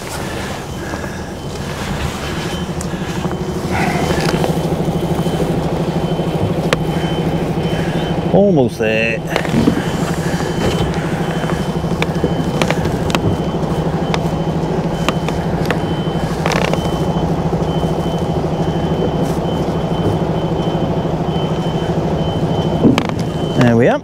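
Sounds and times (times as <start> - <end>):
diesel engine at low revs: 0.0 - 24.0
reversing alarm tone: 0.0 - 24.0.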